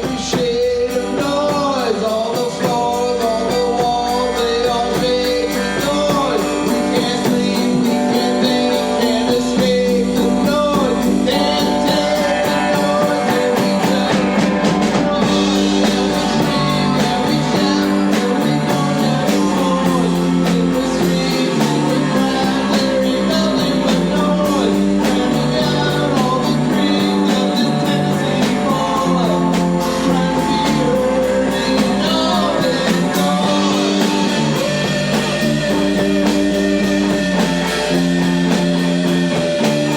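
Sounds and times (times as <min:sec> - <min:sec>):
bass guitar: 0:00.0 - 0:39.9
drums: 0:00.0 - 0:39.9
electric guitar: 0:00.0 - 0:39.9
person singing: 0:00.0 - 0:39.9.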